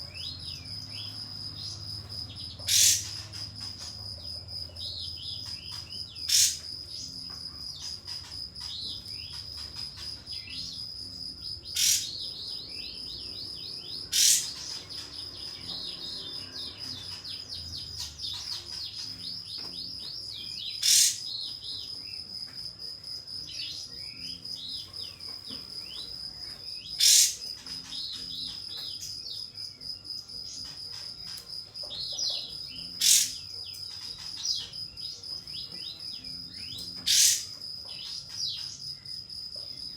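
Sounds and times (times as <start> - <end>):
bird twittering chirps: 0.0 - 22.3, 23.4 - 39.3
high cricket trill: 0.0 - 39.9.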